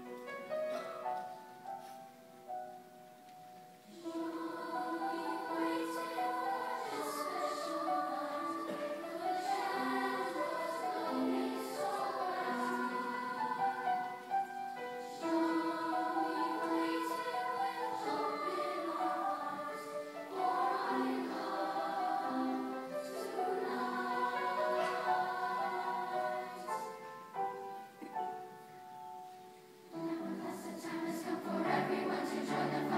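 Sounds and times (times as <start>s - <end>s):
choir singing: 3.8s - 28.3s, 29.9s - 32.9s.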